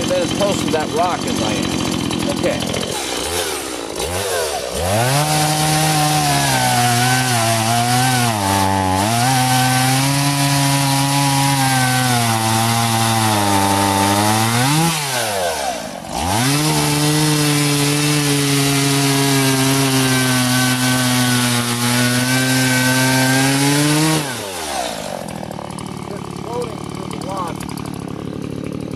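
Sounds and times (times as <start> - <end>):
chainsaw cutting through log: 0.0 - 28.9.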